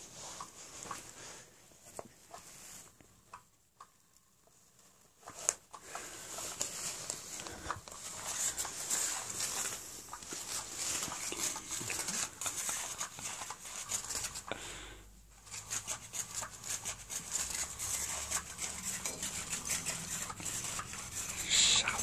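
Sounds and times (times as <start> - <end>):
cat claws scratching fabric: 0.0 - 14.5, 15.3 - 22.0.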